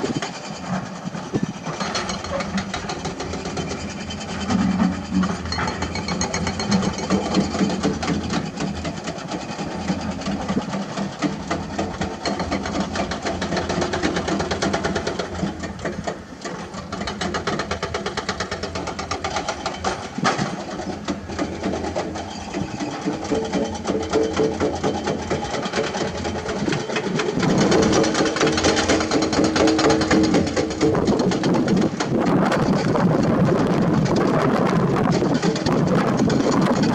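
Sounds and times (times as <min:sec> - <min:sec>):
diesel engine clattering: 0:00.0 - 0:36.9.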